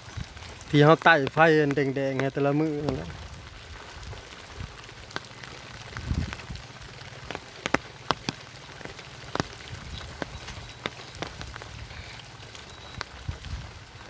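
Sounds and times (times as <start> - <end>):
drips tapping hard surface: 0.0 - 14.0
rain falling: 0.0 - 14.0.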